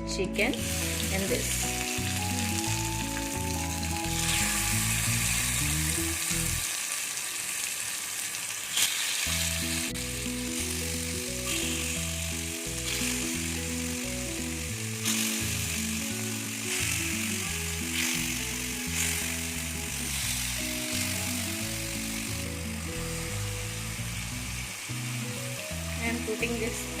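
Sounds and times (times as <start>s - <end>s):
background music: 0.0s - 6.6s, 9.3s - 27.0s
chicken sizzling in hot oil: 0.5s - 27.0s.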